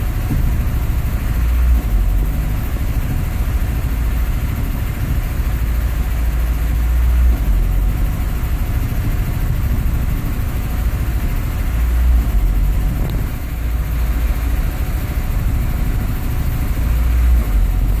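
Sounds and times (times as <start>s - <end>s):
car engine idling roughly: 0.0s - 18.0s.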